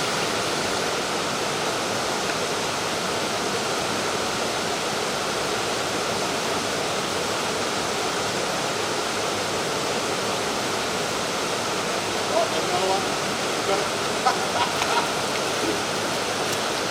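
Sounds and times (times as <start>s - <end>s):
river water rushing over rocks: 0.0s - 16.9s.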